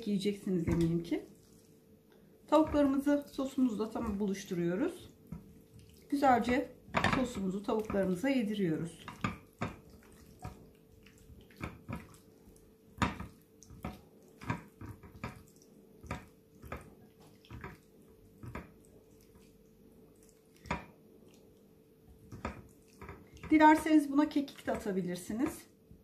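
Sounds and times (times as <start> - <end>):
wet squelching of marinated meat: 0.0 - 25.4
faint steady hum: 0.0 - 26.0.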